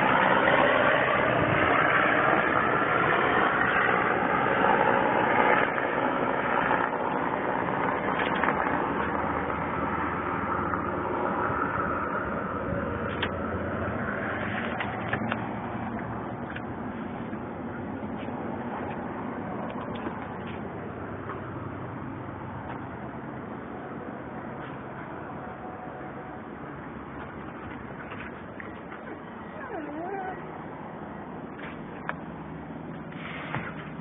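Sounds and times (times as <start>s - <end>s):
vehicle engine: 0.0s - 34.0s.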